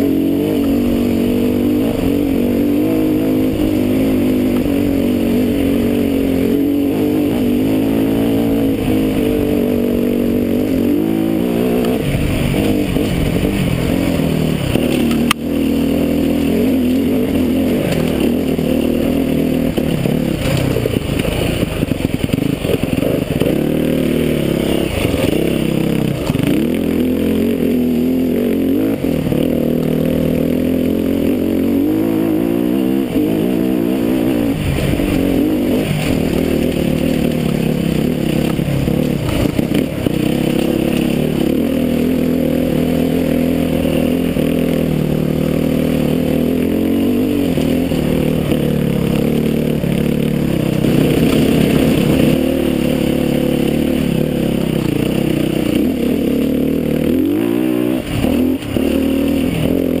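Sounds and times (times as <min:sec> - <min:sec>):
dirt bike engine revving: 0:00.0 - 1:00.0.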